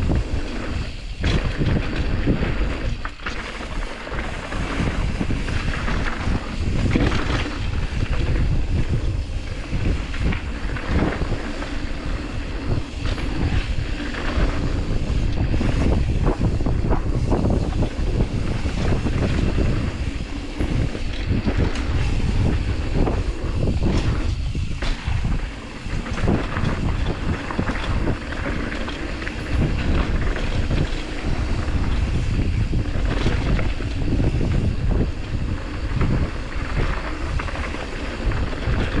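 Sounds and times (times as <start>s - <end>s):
bike rattling and knocking: 0.0s - 39.0s
bike tyres rolling: 0.0s - 39.0s
wind rushing over microphone: 0.0s - 39.0s.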